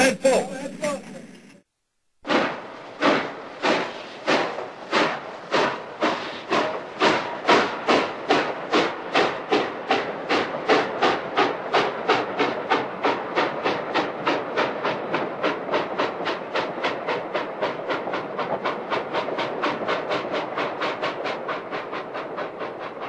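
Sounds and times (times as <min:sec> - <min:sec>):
steam locomotive chuffing: 0:02.2 - 0:23.0.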